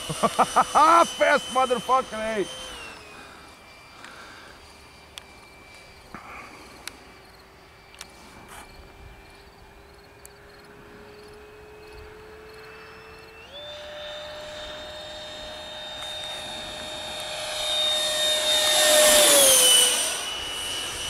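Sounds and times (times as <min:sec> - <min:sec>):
distant electric ducted fan whining: 0:00.0 - 0:21.0.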